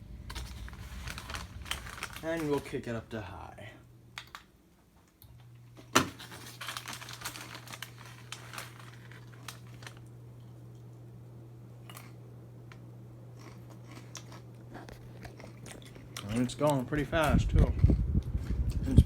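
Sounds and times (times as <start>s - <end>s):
ceiling fan motor humming: 0.0s - 19.0s.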